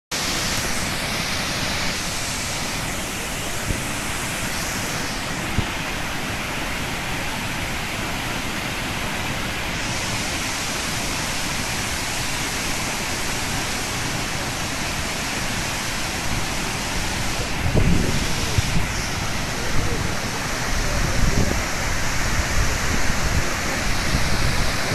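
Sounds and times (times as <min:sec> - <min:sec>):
waterfall rushing: 0:00.1 - 0:24.9.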